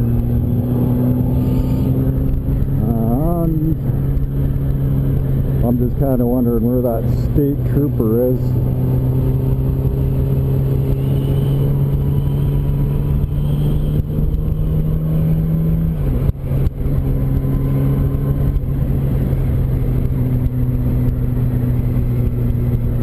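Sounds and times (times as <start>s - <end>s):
motorcycle engine running: 0.0s - 23.0s
road and wind noise: 0.0s - 23.0s.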